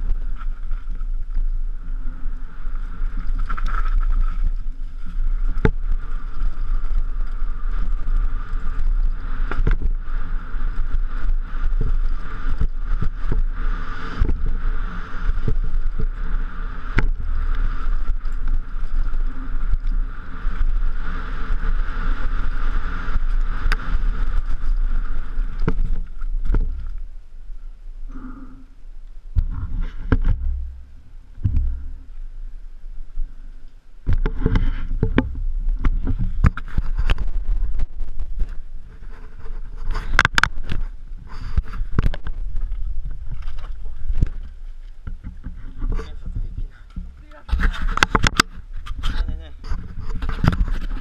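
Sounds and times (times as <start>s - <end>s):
bike rattling over bumps: 0.0s - 27.7s, 29.2s - 51.0s
wind rumble: 0.0s - 51.0s.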